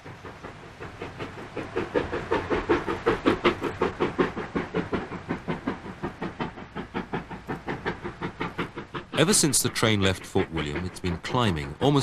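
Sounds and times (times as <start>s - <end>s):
steam locomotive exhaust beat: 0.0s - 12.0s.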